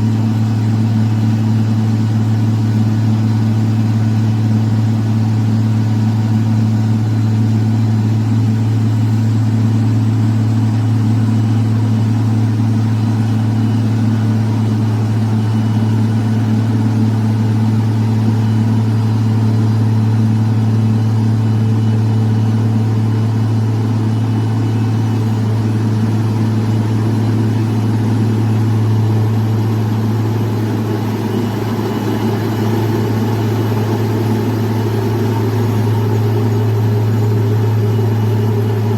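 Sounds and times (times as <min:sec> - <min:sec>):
heavy diesel engine humming: 0:00.0 - 0:38.9.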